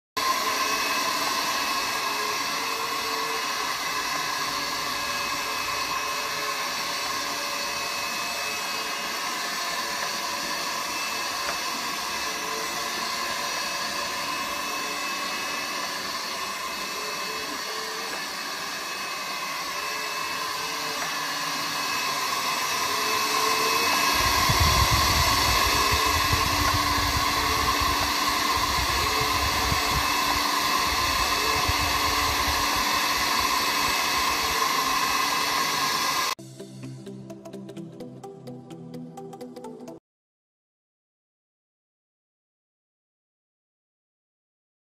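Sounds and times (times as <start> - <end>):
robot cleaner suction fan whine: 0.2 - 36.8.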